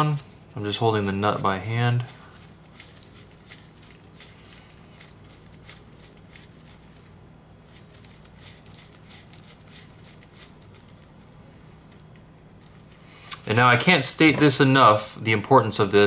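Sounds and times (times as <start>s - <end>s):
gloved hands rustling: 0.0s - 14.7s
low steady hum: 0.0s - 16.0s.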